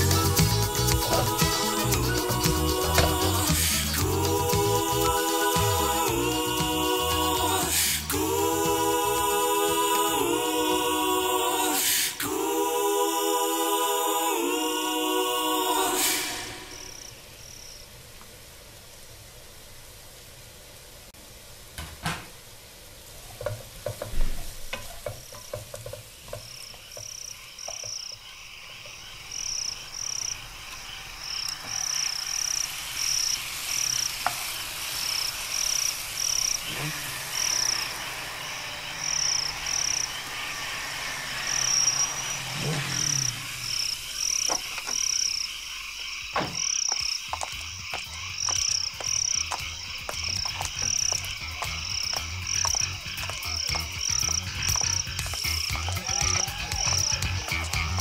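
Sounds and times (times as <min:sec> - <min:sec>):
vegetables sizzling in a wok: 0:00.0 - 0:12.6, 0:22.3 - 0:46.2, 0:47.1 - 0:58.0.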